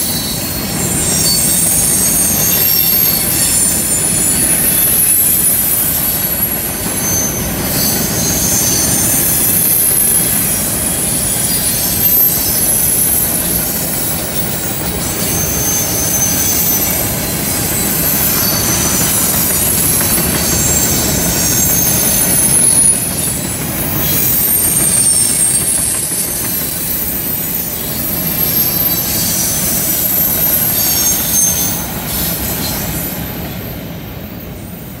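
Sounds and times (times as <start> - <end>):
high-pitched wheel squeal: 0.0 - 35.0
train wheels rumbling on rail: 0.0 - 35.0.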